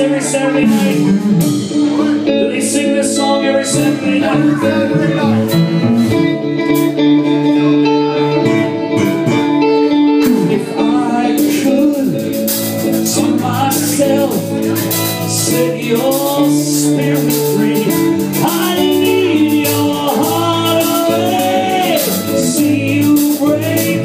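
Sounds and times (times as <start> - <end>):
male lead vocal: 0.0 - 6.4, 10.2 - 24.0
live rock band playing: 0.0 - 24.0
sustained guitar chords: 0.0 - 24.0.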